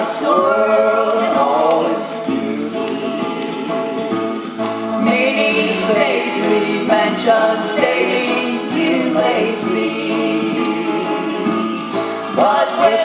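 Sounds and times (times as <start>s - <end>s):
gospel choir singing: 0.0s - 13.0s
instrumental accompaniment: 0.0s - 13.0s.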